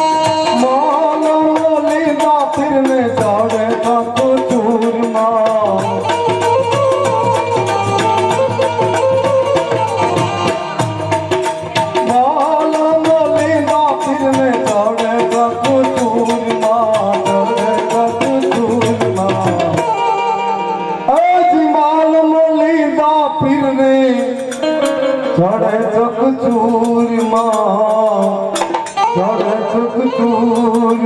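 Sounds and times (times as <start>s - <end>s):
fast hand-drum strokes: 0.0s - 20.4s, 23.7s - 31.0s
folk music on harmonium and keyboard: 0.0s - 31.0s.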